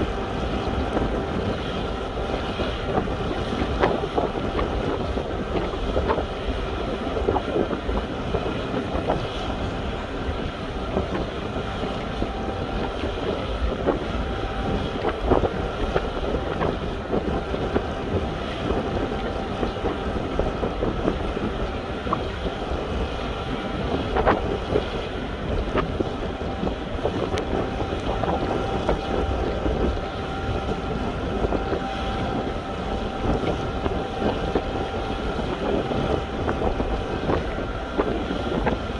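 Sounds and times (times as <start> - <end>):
ship machinery drone: 0.0 - 38.9
wind on microphone: 0.0 - 38.9.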